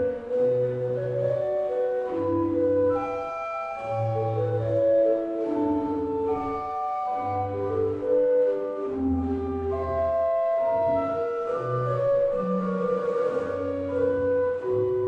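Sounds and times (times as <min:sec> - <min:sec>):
pipe organ playing: 0:00.0 - 0:15.0.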